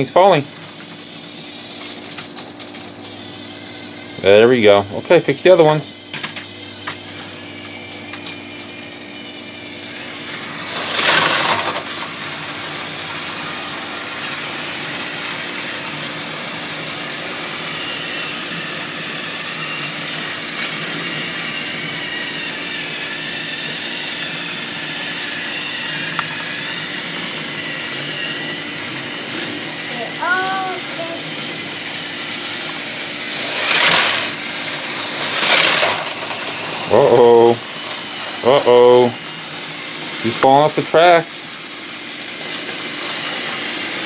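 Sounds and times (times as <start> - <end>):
toy train motor whirr: 0.0 - 44.0.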